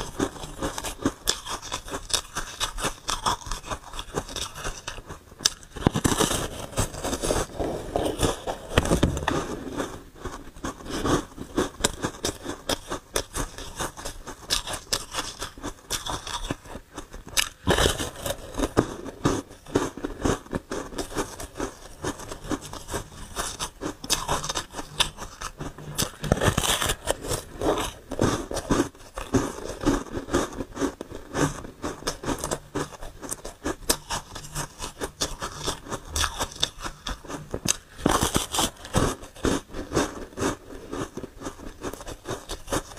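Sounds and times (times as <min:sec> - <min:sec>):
chewing crunchy ice: 0:00.0 - 0:42.9.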